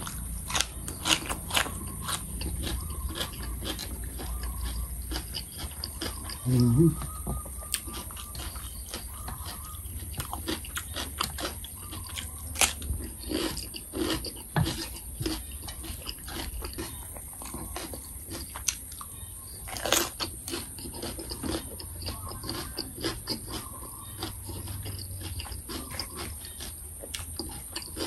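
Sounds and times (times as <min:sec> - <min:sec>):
chewing crunchy cucumber: 0:00.0 - 0:28.0.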